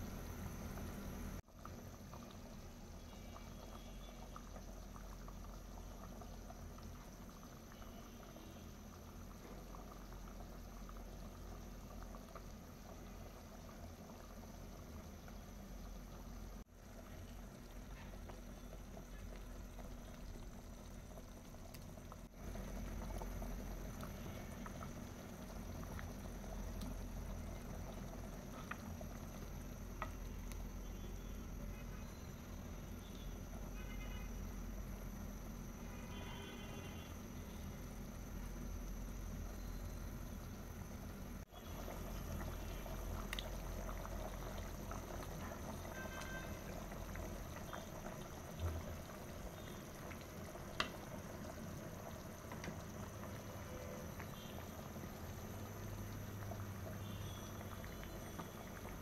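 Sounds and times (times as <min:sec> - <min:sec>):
curry bubbling in a pot: 0:00.0 - 0:59.0.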